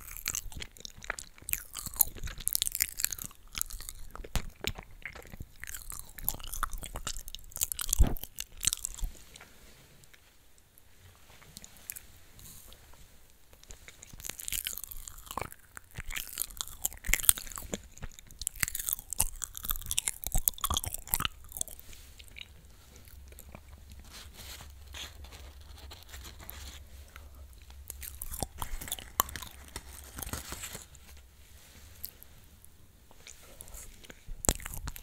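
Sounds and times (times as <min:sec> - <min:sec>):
chewing crunchy food: 0:00.0 - 0:10.2, 0:11.3 - 0:12.8, 0:13.4 - 0:35.0.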